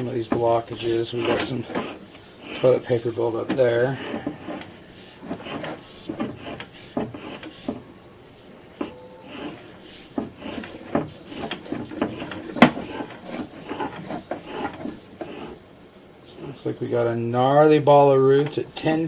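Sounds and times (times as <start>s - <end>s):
cable rubbing and scraping in pipe: 0.0s - 16.7s.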